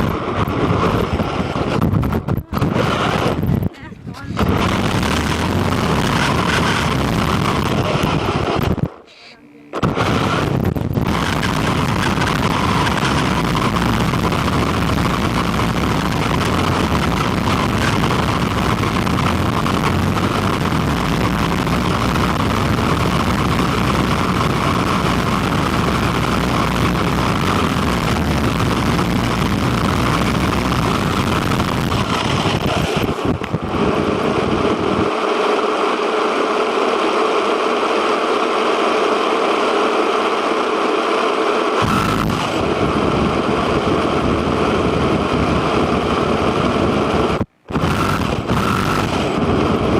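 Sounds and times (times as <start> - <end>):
electric rc car driving: 0.0 - 36.4, 41.4 - 49.9
motor whine: 0.0 - 49.9.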